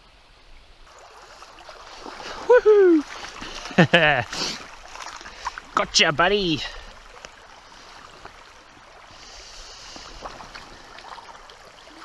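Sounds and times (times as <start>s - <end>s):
river water running over stones: 0.0s - 12.0s.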